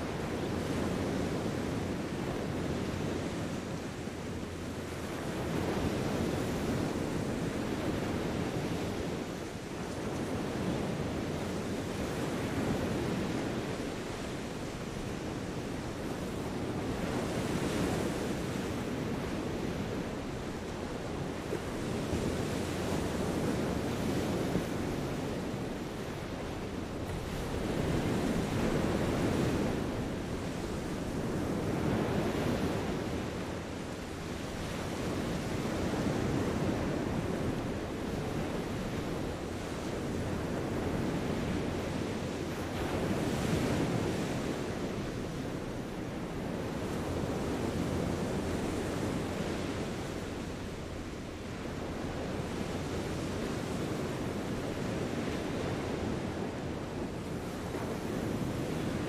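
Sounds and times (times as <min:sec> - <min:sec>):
small waves washing onto beach: 0:00.0 - 0:59.0.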